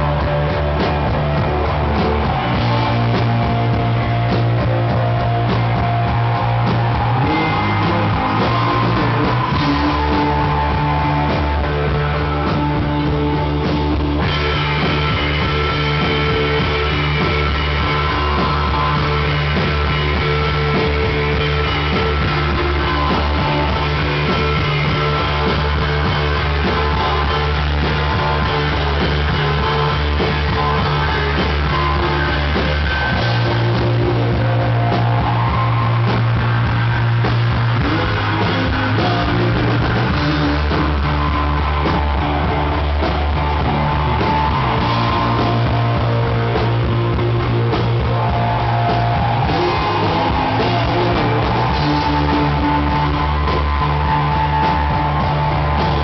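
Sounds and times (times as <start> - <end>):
bass guitar: 0.0 - 56.0
electric guitar: 0.0 - 56.0.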